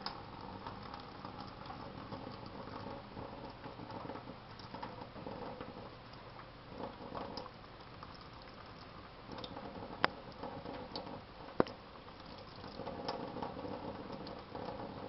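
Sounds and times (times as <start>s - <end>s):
tap water running into sink: 0.0s - 6.0s, 6.7s - 15.0s.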